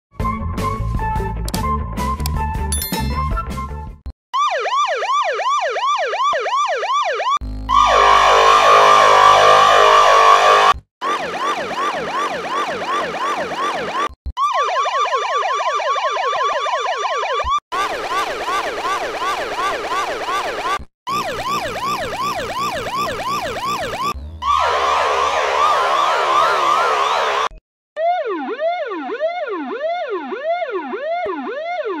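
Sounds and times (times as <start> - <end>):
police siren yelping: 4.4 - 32.0.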